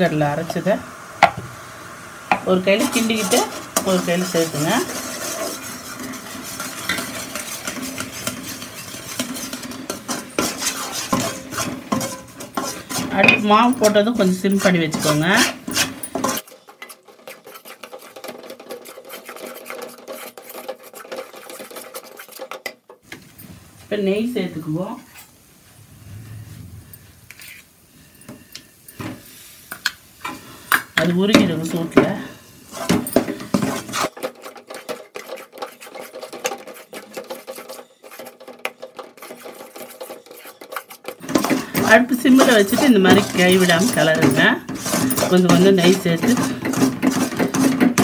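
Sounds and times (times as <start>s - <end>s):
metal ladle scraping a pan: 2.4s - 22.8s, 24.7s - 29.6s, 30.2s - 48.0s.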